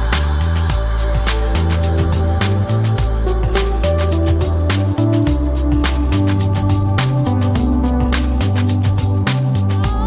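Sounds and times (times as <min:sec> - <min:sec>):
electronic music with bass line: 0:00.0 - 0:10.0.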